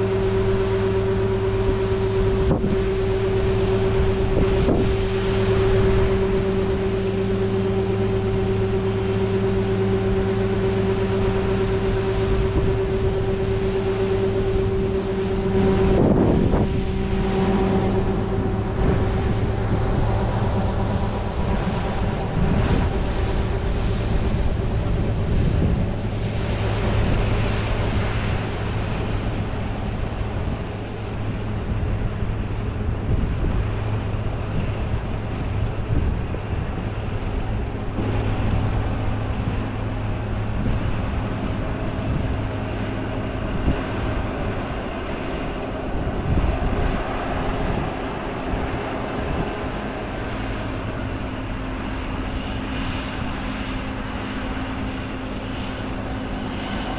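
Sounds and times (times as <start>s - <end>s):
higher steady tone: 0.0s - 56.9s.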